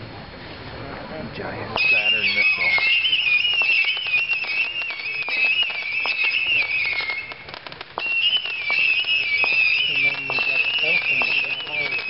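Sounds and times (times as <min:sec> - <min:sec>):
whistling rockets: 0:01.7 - 0:12.0
firework pops: 0:01.8 - 0:12.0.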